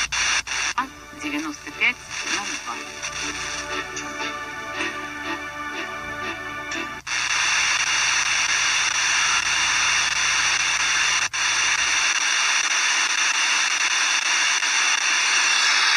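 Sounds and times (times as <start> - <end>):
radio static hiss: 0.0 - 5.4, 6.6 - 15.9
radio broadcast music: 0.0 - 15.9.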